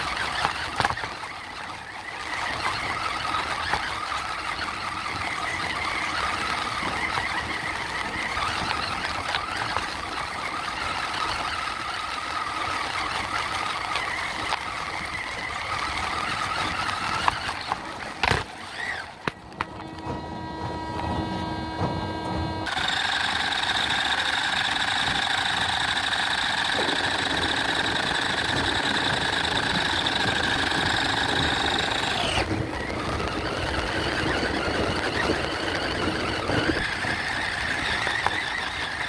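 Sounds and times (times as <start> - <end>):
toy truck motor whining: 0.0 - 39.0.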